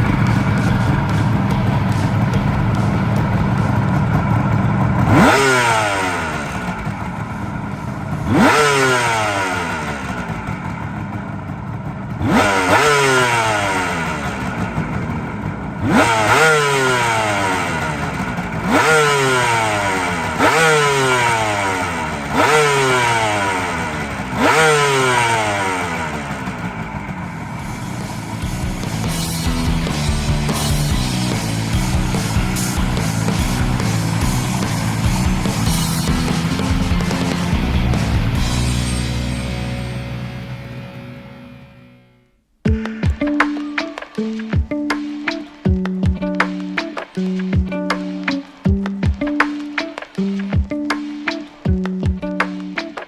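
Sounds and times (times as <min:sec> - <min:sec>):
motorcycle engine idling and revving: 0:00.0 - 0:41.8, 0:42.6 - 0:53.0.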